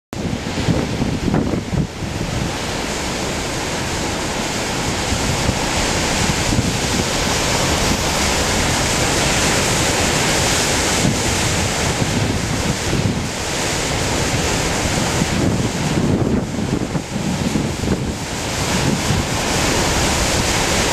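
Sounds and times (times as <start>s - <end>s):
surf breaking roar: 0.1s - 20.9s
wind buffeting microphone: 0.1s - 20.9s.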